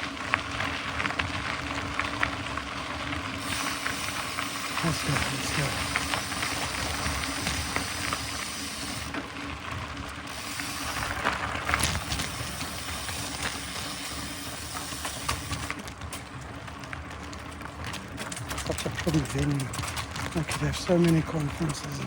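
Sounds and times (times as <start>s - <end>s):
bike clicks and rattles: 0.0s - 22.0s
wind and tyres rushing: 0.0s - 22.0s.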